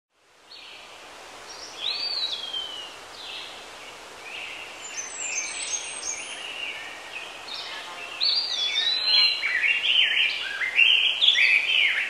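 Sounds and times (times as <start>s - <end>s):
steady hiss: 0.2s - 12.0s
birds calling: 1.5s - 12.0s.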